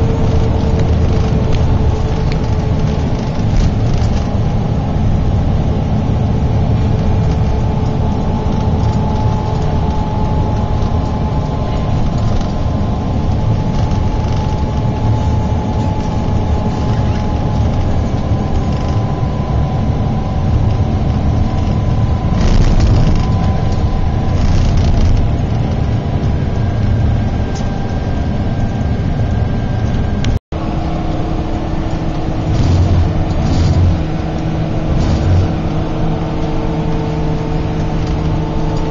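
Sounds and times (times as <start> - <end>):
coach engine and road noise: 0.0 - 38.9.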